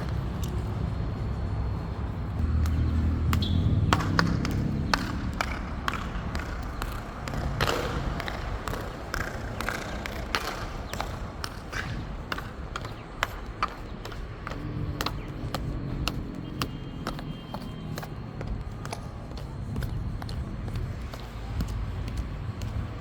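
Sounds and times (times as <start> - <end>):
metal heels clicking on hard floor: 2.4 - 23.0.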